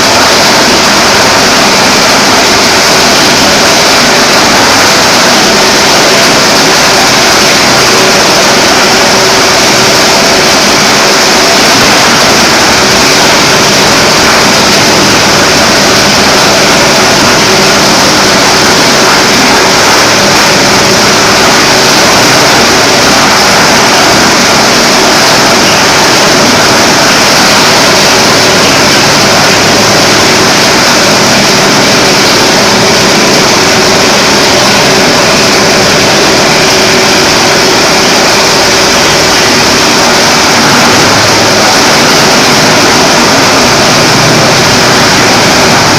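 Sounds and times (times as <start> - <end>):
grinder machine hissing: 0.0 - 45.9.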